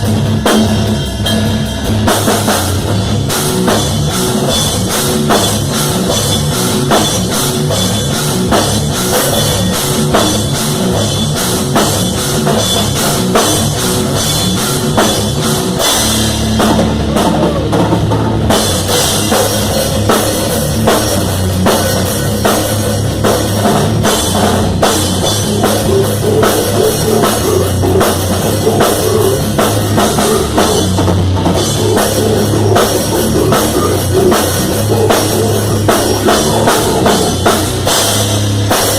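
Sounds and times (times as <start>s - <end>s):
heavy bass line: 0.0s - 38.9s
rock music drum kit: 0.0s - 38.9s.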